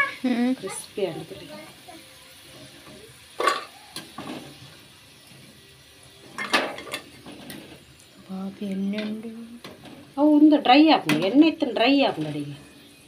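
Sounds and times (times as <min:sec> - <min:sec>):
faint oil sizzle: 0:00.0 - 0:13.0.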